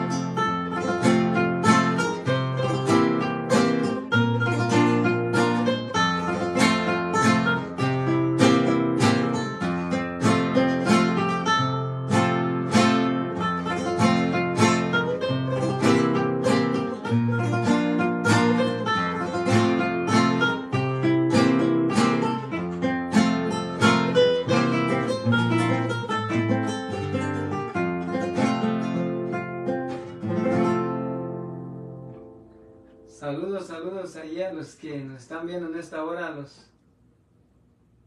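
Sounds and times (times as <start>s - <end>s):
plucked guitar melody: 0.0s - 33.2s.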